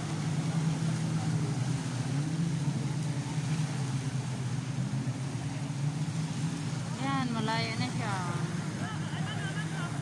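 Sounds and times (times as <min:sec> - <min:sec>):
jet ski engines droning: 0:00.0 - 0:10.0.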